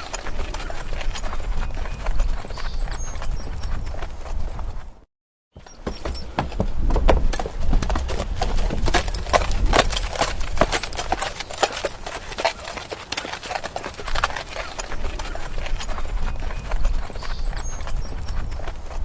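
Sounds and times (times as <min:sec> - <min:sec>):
horse hooves clip-clopping: 0:00.0 - 0:05.0, 0:05.6 - 0:19.0.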